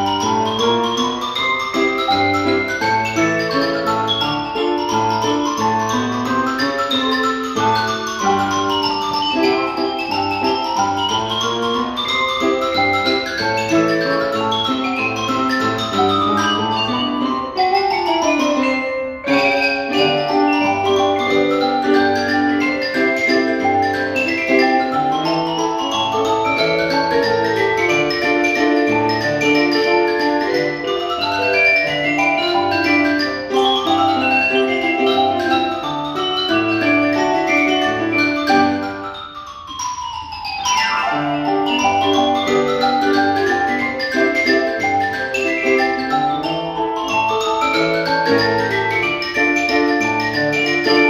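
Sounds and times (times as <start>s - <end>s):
mallet percussion ensemble playing: 0.0s - 51.0s.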